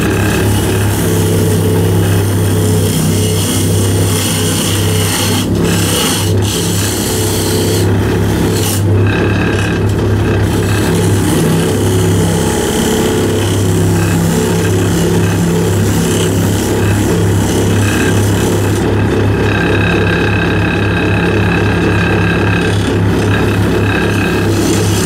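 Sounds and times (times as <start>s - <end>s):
chisel cutting spinning wood: 0.0s - 25.0s
wood lathe motor hum: 0.0s - 25.0s.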